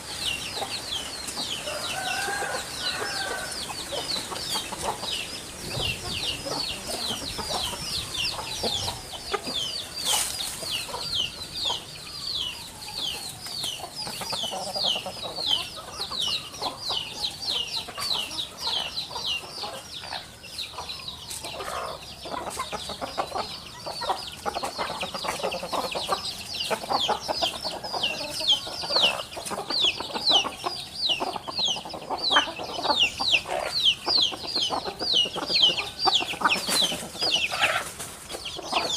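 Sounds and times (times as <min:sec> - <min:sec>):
birds chirping high: 0:00.0 - 0:38.9
birds clucking: 0:00.0 - 0:38.9.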